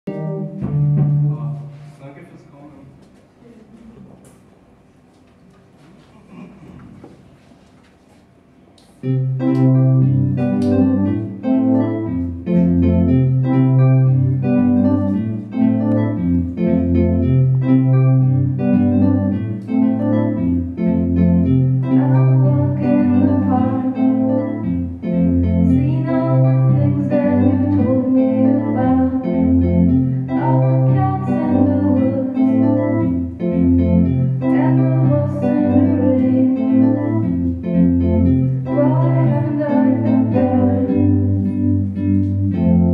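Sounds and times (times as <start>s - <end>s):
organ-toned synthesizer chords: 0.0s - 1.6s, 9.0s - 42.9s
bass line: 0.0s - 1.8s, 9.0s - 42.9s
electric guitar: 0.0s - 1.9s, 9.0s - 42.9s.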